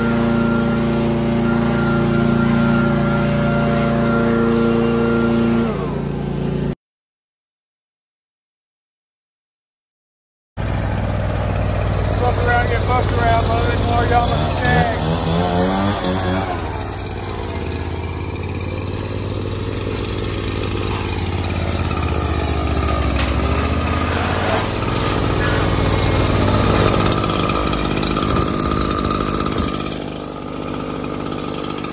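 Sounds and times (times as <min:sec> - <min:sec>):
leaf blower idling: 0:00.0 - 0:06.8, 0:10.6 - 0:31.9
mower engine humming: 0:00.0 - 0:06.8, 0:10.6 - 0:31.9.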